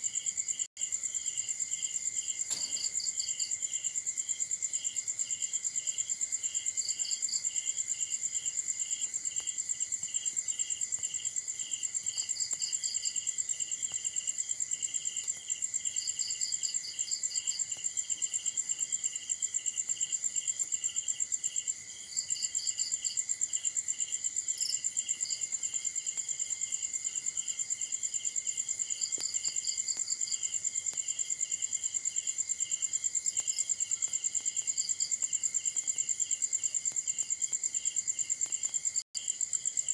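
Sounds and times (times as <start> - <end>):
cricket continuous high trill: 0.0 - 39.9
cricket lower chirp: 0.0 - 39.9.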